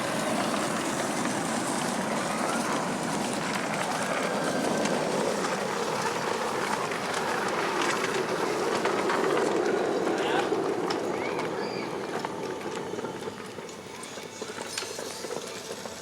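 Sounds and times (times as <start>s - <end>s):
miniature train running: 0.0s - 16.0s
wheels clicking over rails: 0.0s - 16.0s.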